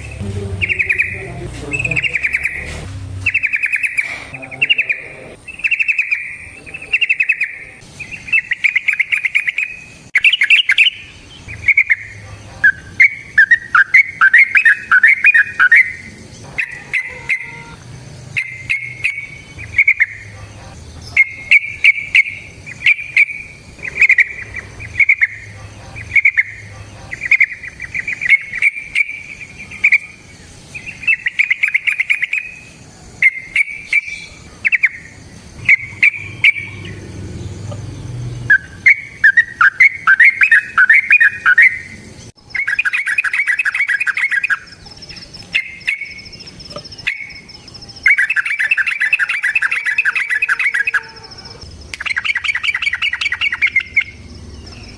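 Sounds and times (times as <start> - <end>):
bulbul singing bubbly phrases: 0.0 - 32.6, 33.2 - 46.1.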